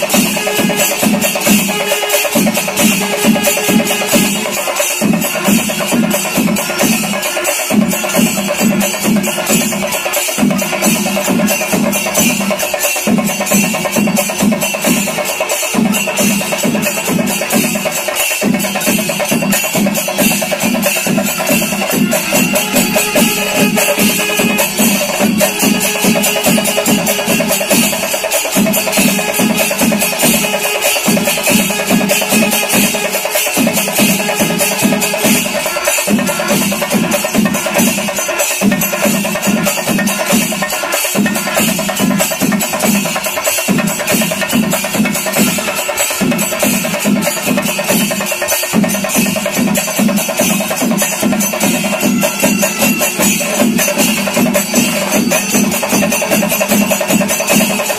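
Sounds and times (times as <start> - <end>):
drums struck with sticks: 0.0 - 57.9
rhythmic percussion beat: 0.0 - 57.9.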